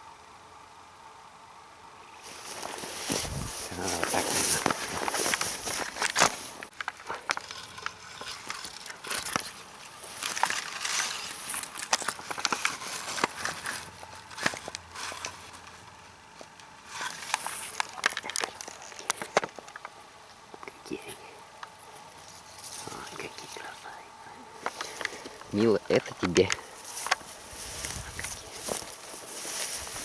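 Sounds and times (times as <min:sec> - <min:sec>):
grass rustling and snapping: 0:02.2 - 0:20.8, 0:24.5 - 0:30.0.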